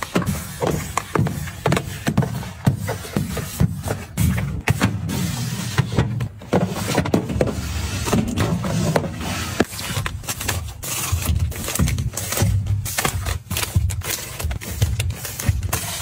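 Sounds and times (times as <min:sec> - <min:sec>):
items clicking and knocking: 0:00.0 - 0:05.0, 0:05.7 - 0:16.0.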